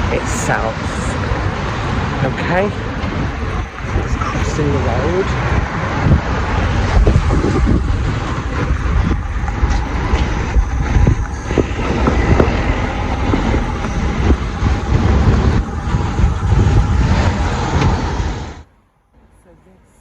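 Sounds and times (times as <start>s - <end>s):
wind buffeting microphone: 0.0s - 18.7s
low rumble of passing vehicles: 0.0s - 20.0s.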